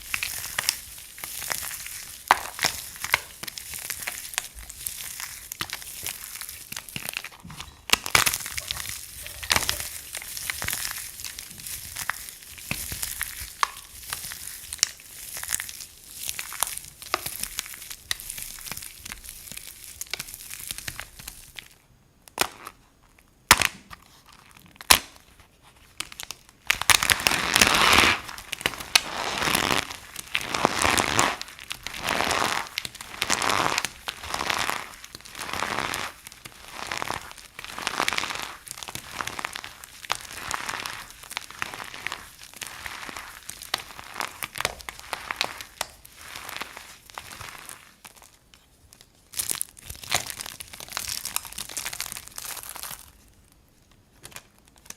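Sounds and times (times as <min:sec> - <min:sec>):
dry soap cracking: 0:00.0 - 0:54.9
dry soap crunching and scraping: 0:00.0 - 0:54.9.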